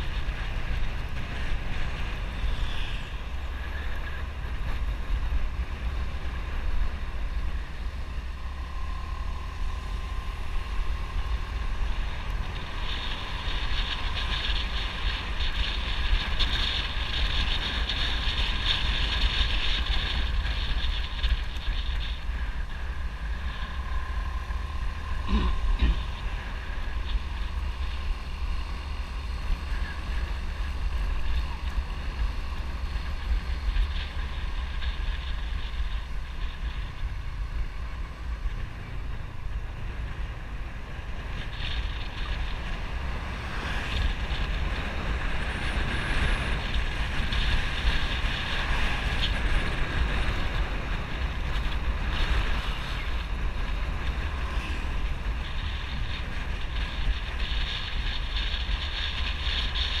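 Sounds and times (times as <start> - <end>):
motorbike engine running: 0.0 - 60.0
wind buffeting microphone: 0.0 - 60.0.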